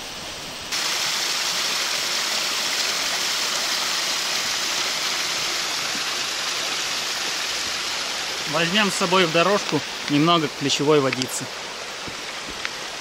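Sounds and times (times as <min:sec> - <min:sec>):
waterfall splashing onto stones: 0:00.7 - 0:13.0.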